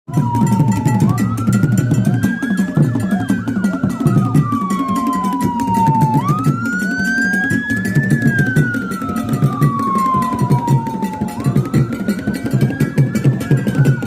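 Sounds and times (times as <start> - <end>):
music with steady beat: 0.1 - 14.0
wailing siren: 0.1 - 14.0.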